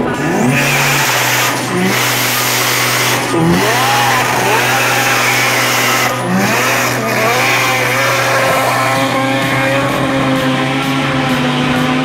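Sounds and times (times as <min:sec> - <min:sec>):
tyres screeching: 0:00.0 - 0:10.5
car engine revving hard: 0:00.0 - 0:12.0.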